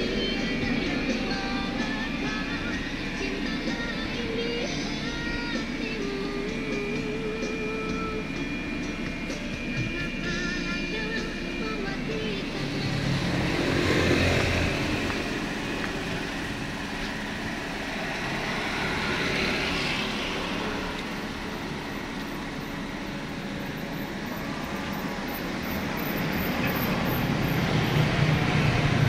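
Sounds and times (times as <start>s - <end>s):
road vehicle noise: 0.0s - 29.0s.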